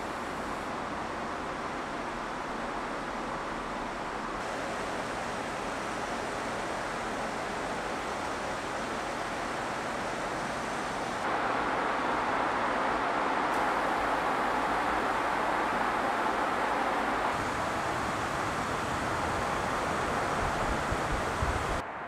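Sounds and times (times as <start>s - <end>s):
car road and tyre noise: 0.0s - 22.0s.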